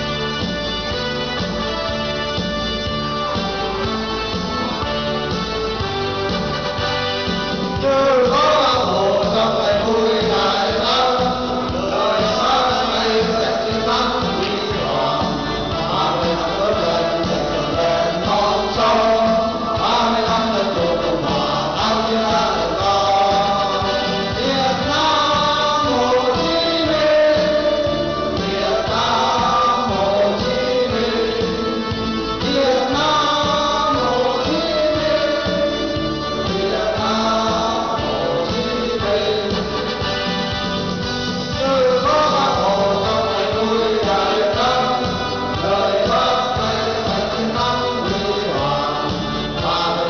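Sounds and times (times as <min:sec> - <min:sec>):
instrumental backing music: 0:00.0 - 0:50.0
men singing into microphones: 0:04.1 - 0:50.0.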